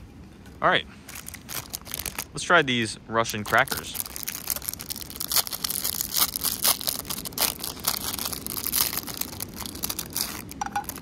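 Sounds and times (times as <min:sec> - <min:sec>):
cracker wrapper crinkling: 0:01.0 - 0:02.4, 0:03.2 - 0:11.0.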